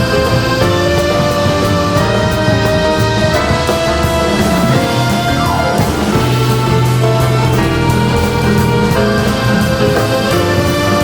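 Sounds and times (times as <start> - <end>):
jazz band playing live: 0.0 - 11.0
long sliding melody note: 0.4 - 11.0.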